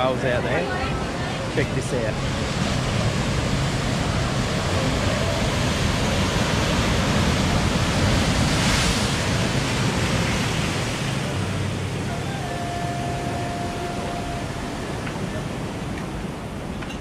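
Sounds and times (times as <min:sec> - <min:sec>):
ocean surf breaking on rocks: 0:00.0 - 0:17.0.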